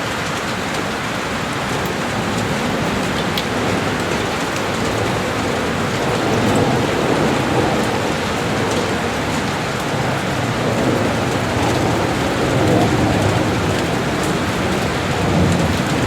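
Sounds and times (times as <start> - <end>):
heavy rain on a window: 0.0 - 16.0.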